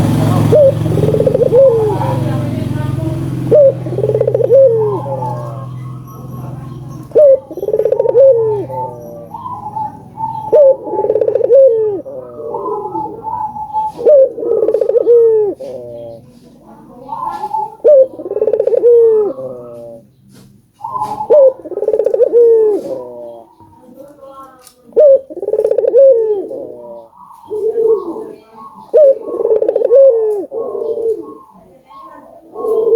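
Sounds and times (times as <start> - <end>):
doves cooing: 0.0 - 32.9.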